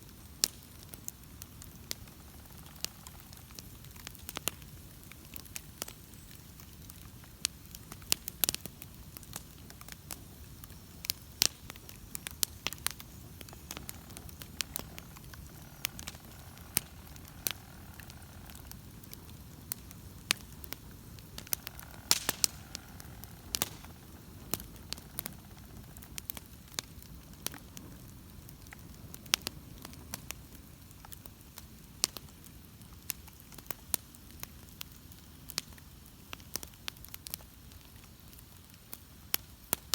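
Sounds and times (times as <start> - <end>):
bonfire crackling and popping: 0.0 - 39.9
low rumble of flames: 0.0 - 39.9.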